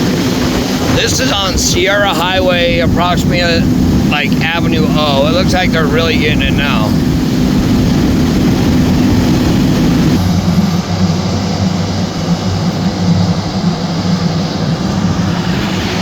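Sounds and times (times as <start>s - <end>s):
heavy engine humming: 0.0s - 16.0s.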